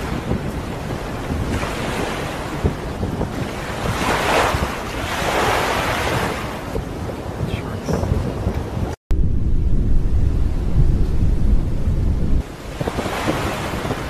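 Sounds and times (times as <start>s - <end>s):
sea water splashing: 0.0s - 9.0s, 10.1s - 14.0s
wind buffeting microphone: 0.0s - 14.0s.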